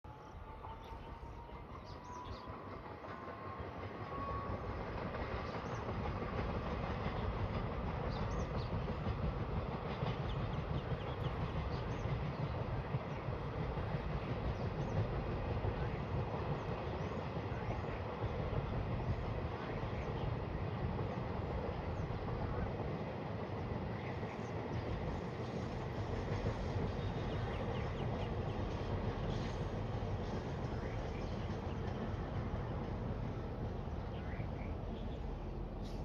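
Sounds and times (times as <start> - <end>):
train rumbling slowly: 0.0 - 36.0.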